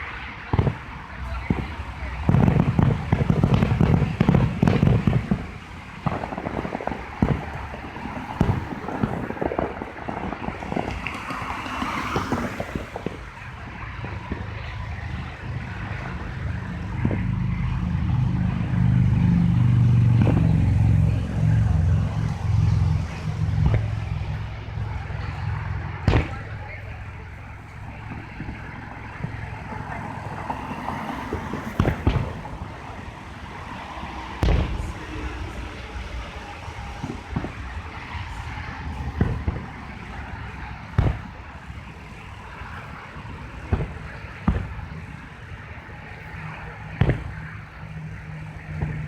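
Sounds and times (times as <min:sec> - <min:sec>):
fireworks bangs and crackles: 0:00.0 - 0:49.0
low vehicle rumble: 0:00.0 - 0:49.0.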